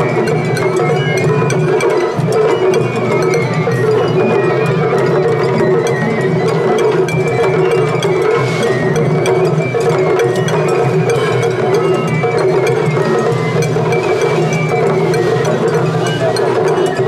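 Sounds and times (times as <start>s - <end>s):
high bamboo flute melody: 0.0s - 17.0s
rapid taiko drumming: 0.0s - 17.0s
wood-block-like strikes: 0.0s - 17.0s.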